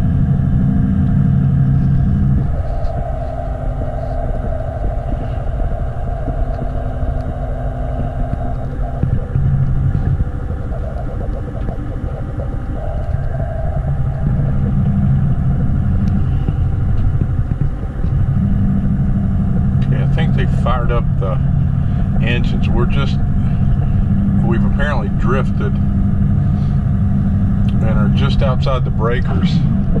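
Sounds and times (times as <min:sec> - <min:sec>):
ship engines rumbling: 0:00.0 - 0:30.0.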